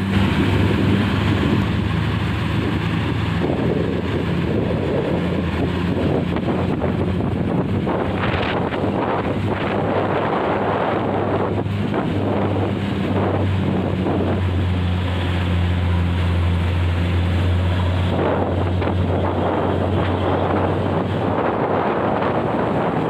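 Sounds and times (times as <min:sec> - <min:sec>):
diesel engine drone: 0:00.0 - 0:23.0
road noise: 0:00.0 - 0:23.0
wind buffeting microphone: 0:00.0 - 0:23.0.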